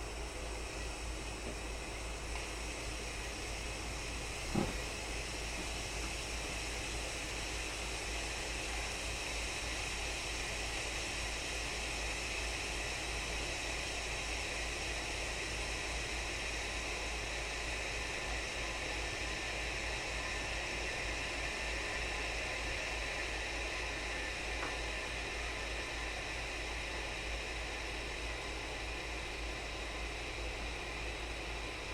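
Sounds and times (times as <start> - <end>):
kettle hissing: 0.0 - 31.9.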